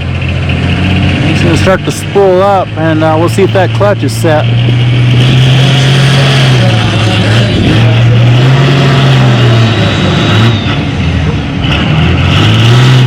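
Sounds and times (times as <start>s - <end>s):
tractor engine revving with turbo: 0.0s - 13.0s.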